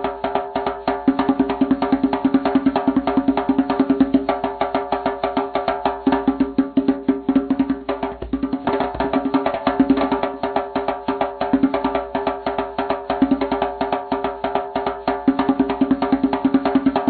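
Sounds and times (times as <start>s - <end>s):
djembe hand drum: 0.0s - 17.0s.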